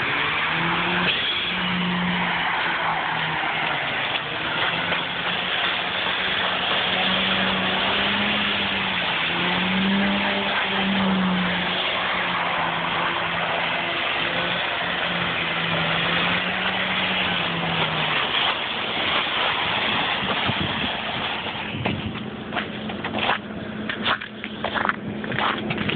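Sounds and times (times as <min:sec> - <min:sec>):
loud rushing noise: 0:00.0 - 0:23.8
car engine running: 0:00.0 - 0:25.9.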